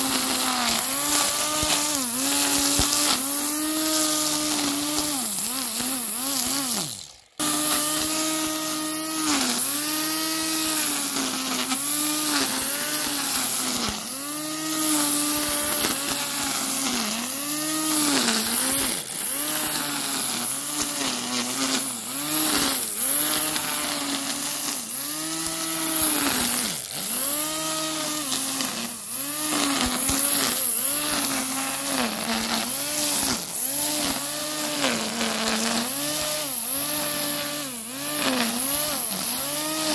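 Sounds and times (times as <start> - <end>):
electric grass trimmer cutting grass: 0.0 - 39.9.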